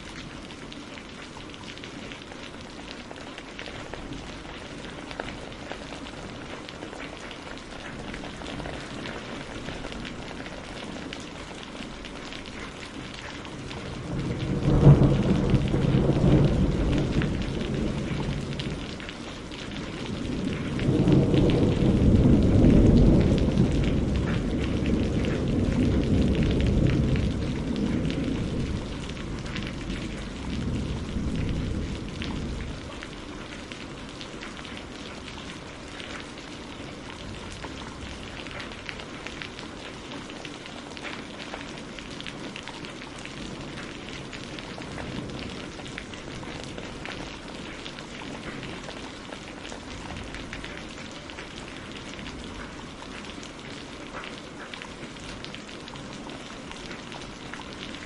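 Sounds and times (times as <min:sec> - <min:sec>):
rain drops pattering: 0:00.0 - 0:58.0
low rumble of thunder: 0:03.0 - 0:40.4, 0:41.2 - 0:53.6.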